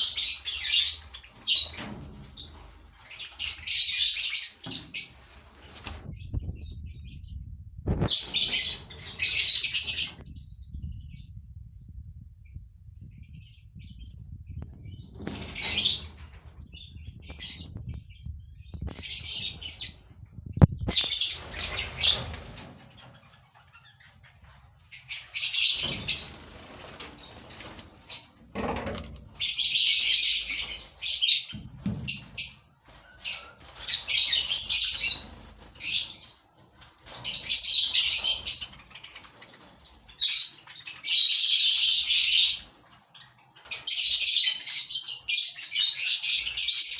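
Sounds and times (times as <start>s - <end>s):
lovebirds chirping and chattering: 0.0s - 46.9s.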